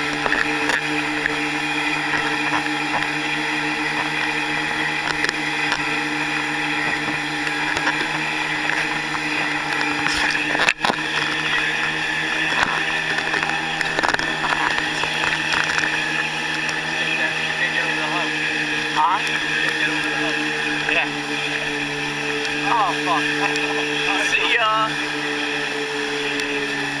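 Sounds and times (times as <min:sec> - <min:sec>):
motorboat engine running: 0:00.0 - 0:27.0.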